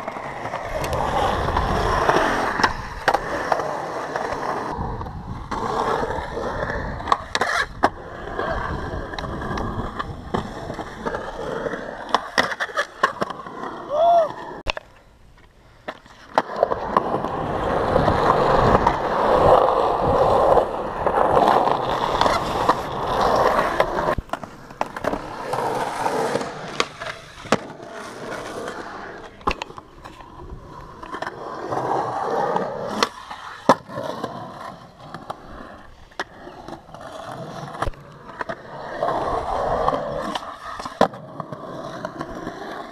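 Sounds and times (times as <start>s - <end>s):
skateboard wheels rolling on concrete: 0.0s - 42.9s.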